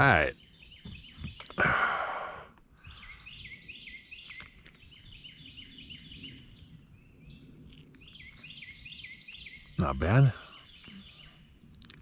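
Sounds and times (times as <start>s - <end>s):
bird singing repeated notes: 0.0s - 12.0s.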